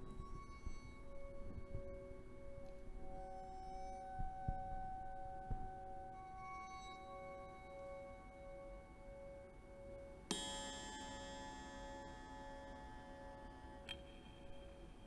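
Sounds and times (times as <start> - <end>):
wavering bell-like tone: 0.0 - 15.0.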